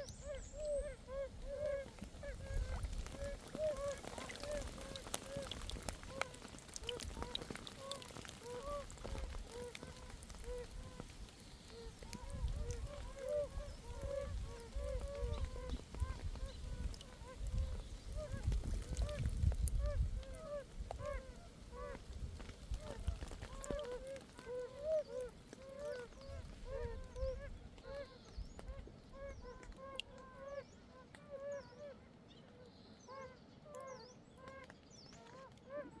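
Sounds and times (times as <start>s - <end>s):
toads calling in chorus: 0.0s - 30.7s.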